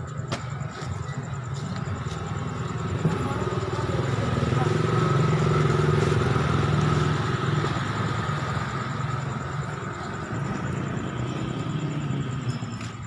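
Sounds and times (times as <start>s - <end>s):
street noise: 0.0s - 13.0s
motorcycle engine running: 2.5s - 13.0s.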